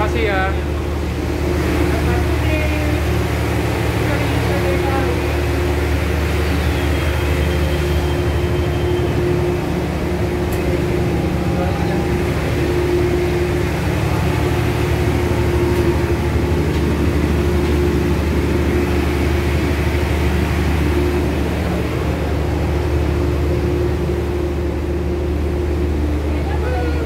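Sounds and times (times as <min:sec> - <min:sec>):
train running rumble and hum: 0:00.0 - 0:27.0.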